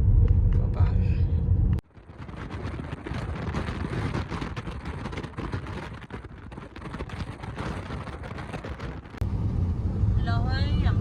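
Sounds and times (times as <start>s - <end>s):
car road and wind rush: 0.0s - 11.0s.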